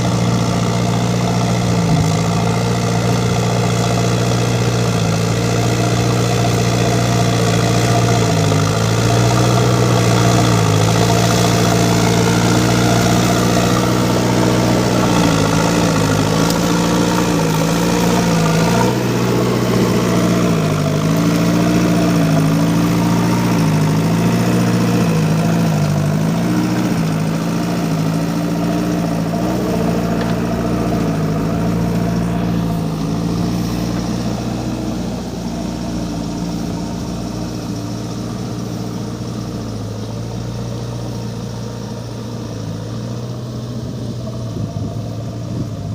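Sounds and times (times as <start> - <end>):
diesel engine bogging: 0.0 - 45.9.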